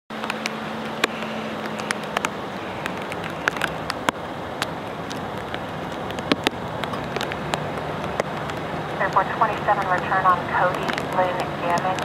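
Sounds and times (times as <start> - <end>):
sharp ticks and clicks: 0.1 - 12.0
steady rushing noise: 0.1 - 12.0.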